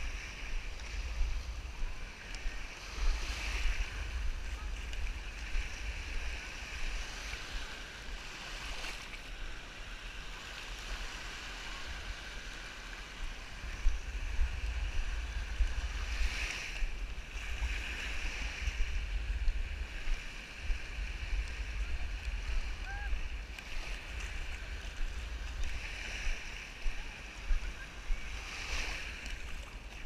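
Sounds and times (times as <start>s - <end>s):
wind buffeting microphone: 0.0s - 8.8s, 10.8s - 30.0s
small waves lapping shoreline: 0.0s - 30.0s.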